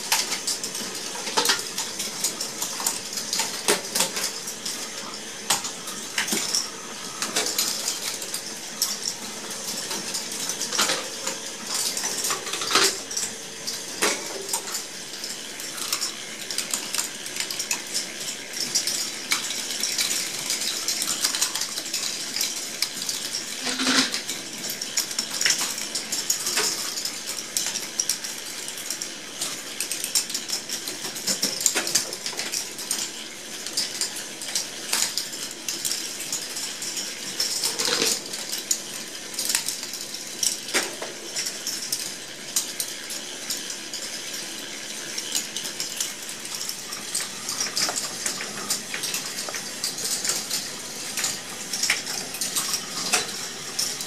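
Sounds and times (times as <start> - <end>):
plastic balls clattering on tracks: 0.1 - 54.0.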